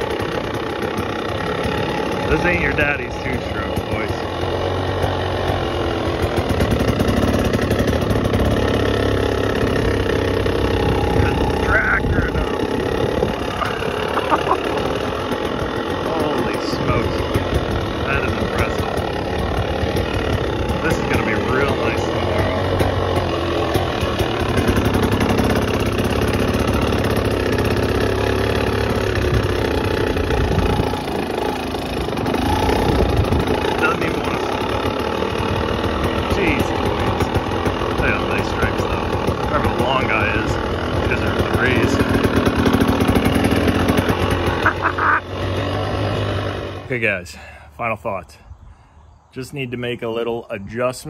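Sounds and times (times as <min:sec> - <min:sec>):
two-stroke dirt bike idling: 0:00.0 - 0:48.2.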